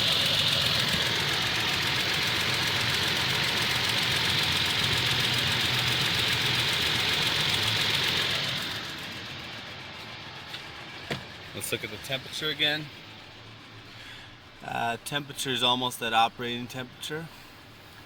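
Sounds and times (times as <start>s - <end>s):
engine idling: 0.0s - 18.0s
rapid engine ticking: 0.0s - 18.0s.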